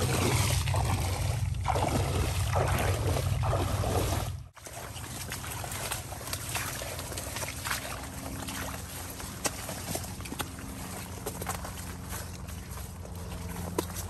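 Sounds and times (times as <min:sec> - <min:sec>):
boat motor humming: 0:00.0 - 0:14.0
water and wind noise: 0:00.0 - 0:14.0.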